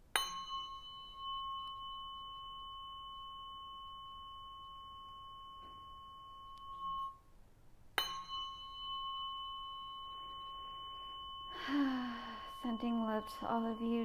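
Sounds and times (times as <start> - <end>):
tuning fork ringing: 0.0 - 14.0.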